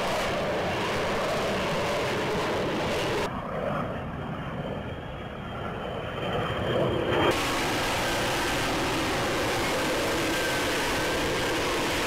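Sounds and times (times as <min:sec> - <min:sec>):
jet in flight: 0:00.0 - 0:12.0.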